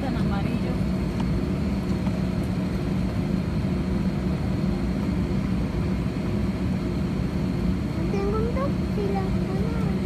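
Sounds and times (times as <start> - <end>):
aircraft cabin drone: 0.0 - 10.0.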